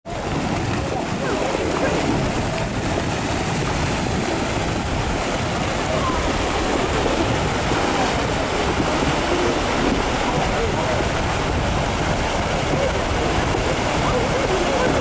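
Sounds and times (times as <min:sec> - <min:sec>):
rushing water and debris: 0:00.1 - 0:15.0.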